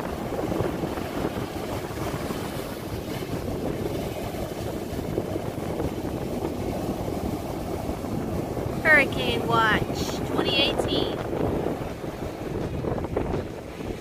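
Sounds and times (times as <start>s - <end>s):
surf breaking on beach: 0.0s - 14.0s
wind rumbling on microphone: 0.0s - 14.0s.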